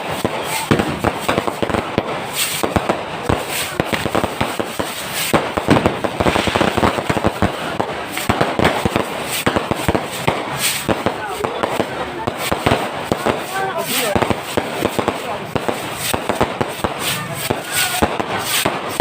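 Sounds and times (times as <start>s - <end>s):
fireworks cracking and banging: 0.0s - 19.0s
fireworks crackling hiss: 0.0s - 19.0s.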